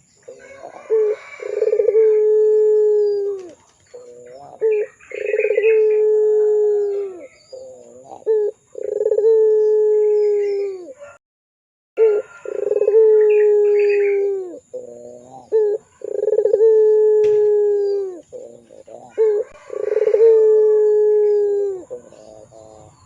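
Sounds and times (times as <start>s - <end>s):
dove cooing: 0.0s - 11.2s, 12.0s - 23.0s.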